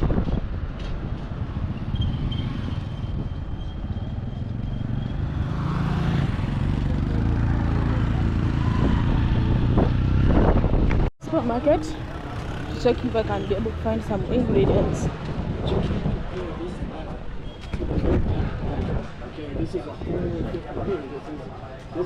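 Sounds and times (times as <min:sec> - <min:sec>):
wind buffeting microphone: 0:00.0 - 0:04.2, 0:06.1 - 0:21.6.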